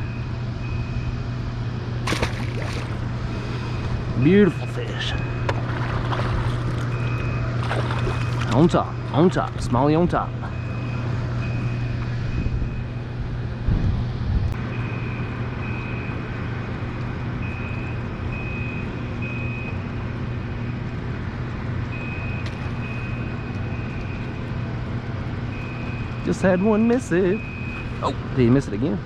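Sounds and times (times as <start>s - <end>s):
boat motor humming: 0.0s - 28.7s.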